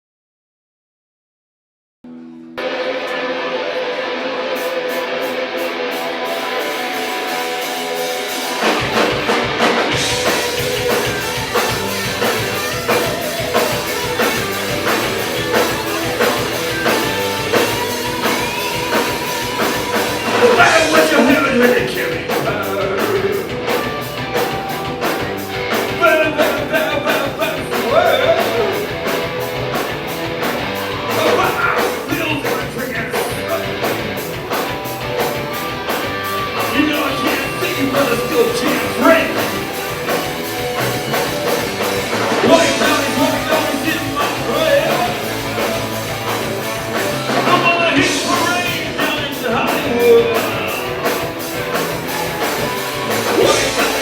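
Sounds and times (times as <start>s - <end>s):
electric guitar: 2.1s - 54.0s
live rock band playing: 2.1s - 54.0s
drums beat: 4.8s - 54.0s.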